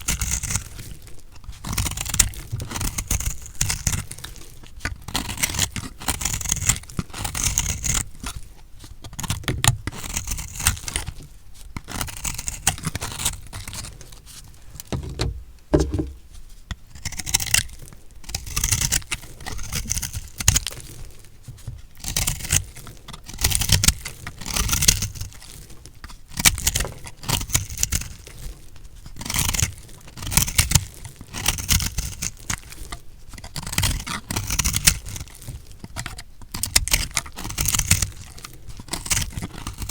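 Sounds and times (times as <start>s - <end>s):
knife cutting through soap: 0.0s - 21.1s, 29.0s - 39.9s.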